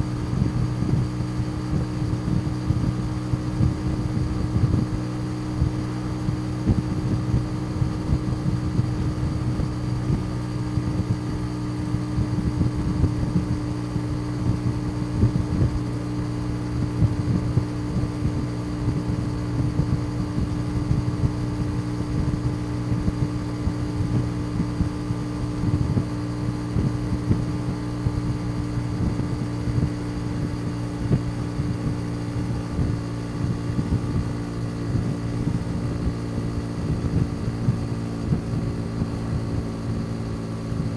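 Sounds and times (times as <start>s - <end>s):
motorcycle engine droning: 0.0s - 40.9s.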